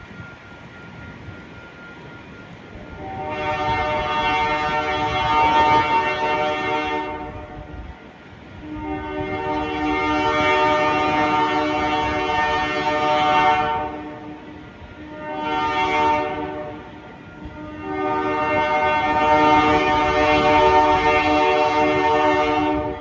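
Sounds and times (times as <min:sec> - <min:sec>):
locomotive rumble: 0:00.0 - 0:23.0
locomotive air horn blasts: 0:02.8 - 0:23.0.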